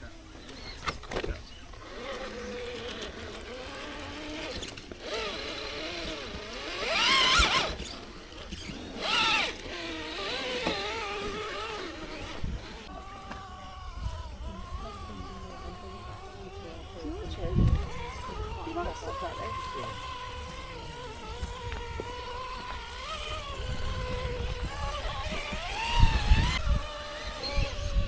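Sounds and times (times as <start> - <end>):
electric motor and gears whining: 0.0 - 28.0.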